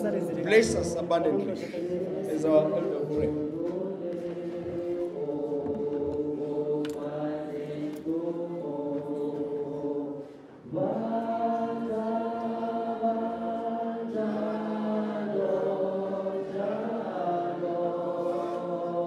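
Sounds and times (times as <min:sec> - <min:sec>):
congregation singing a hymn: 0:00.0 - 0:19.0.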